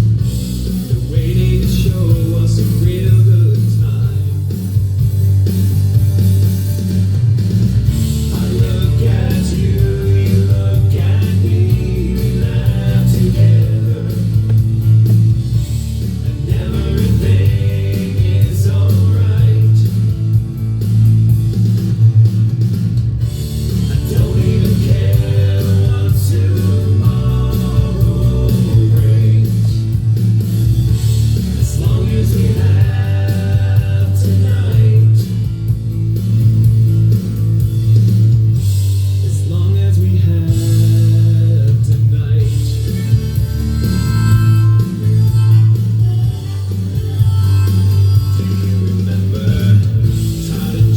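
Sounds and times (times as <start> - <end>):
rock song with singing: 0.0 - 50.9.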